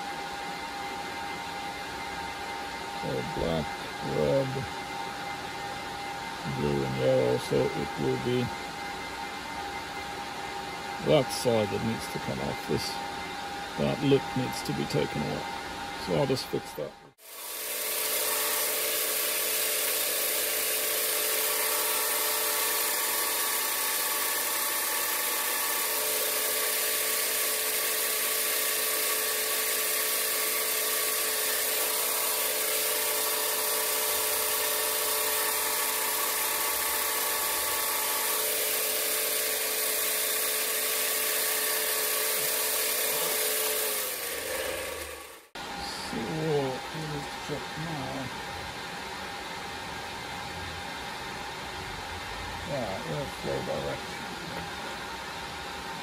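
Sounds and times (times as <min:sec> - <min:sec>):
bench grinder running: 0:00.0 - 0:48.4, 0:52.6 - 0:56.0.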